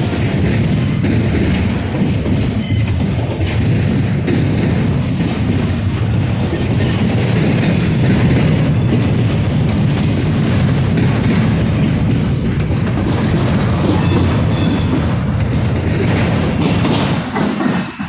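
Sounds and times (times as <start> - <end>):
train wheels rumbling on rails: 0.0 - 18.0
wheels clicking over rail joints: 0.0 - 18.0.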